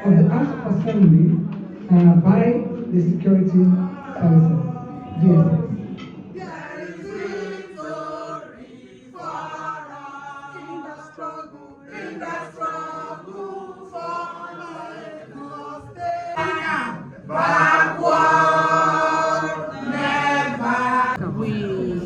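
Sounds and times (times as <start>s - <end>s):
group singing in chorus: 3.6s - 22.0s.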